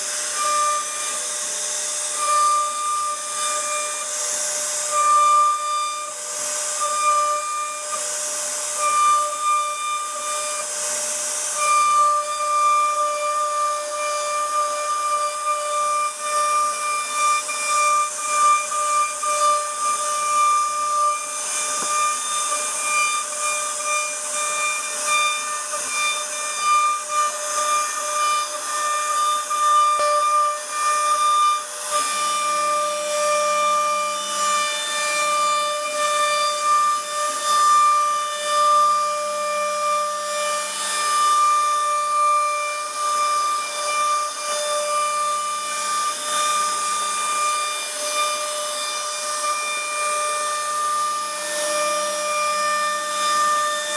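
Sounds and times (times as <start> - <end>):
router spindle whining: 0.0 - 53.9
wood cutting hiss: 0.0 - 53.9.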